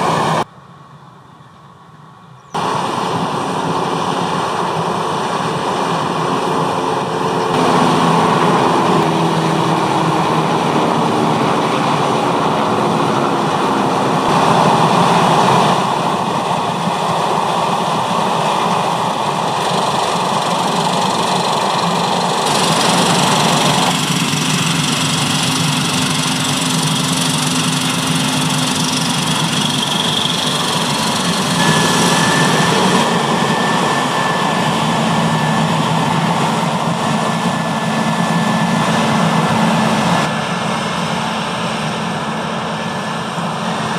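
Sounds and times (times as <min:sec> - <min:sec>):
combine harvester running: 0:00.0 - 0:00.5, 0:02.6 - 0:43.9
tractor engine running: 0:00.0 - 0:00.5, 0:02.6 - 0:43.9.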